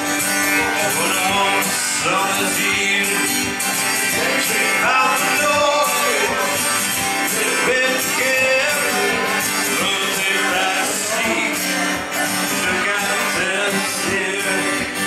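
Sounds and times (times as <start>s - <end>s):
acoustic guitar strumming: 0.0s - 15.0s
man singing: 0.0s - 15.0s.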